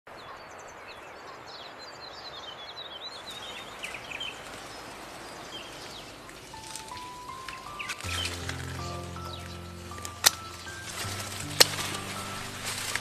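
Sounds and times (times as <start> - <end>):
birds chirping and trilling: 0.1 - 13.0
outdoor ambience hiss: 0.1 - 13.0.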